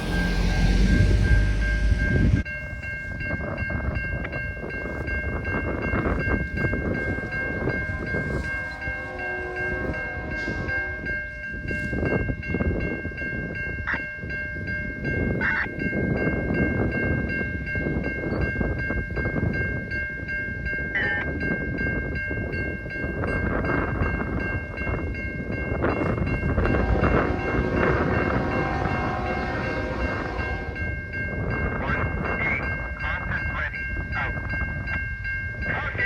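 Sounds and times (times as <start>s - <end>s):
high-pitched ringing tones: 0.0s - 35.8s
freight train passing: 0.0s - 36.0s.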